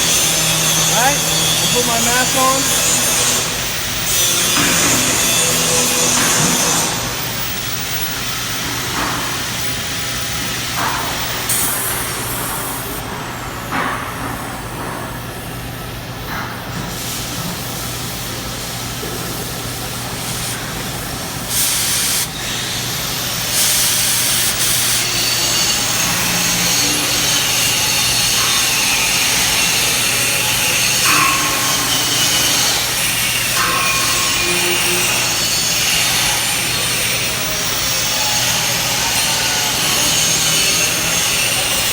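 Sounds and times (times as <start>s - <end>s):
cutting torch hissing: 0.0s - 13.0s, 16.9s - 41.9s
low shop hum: 0.0s - 41.9s.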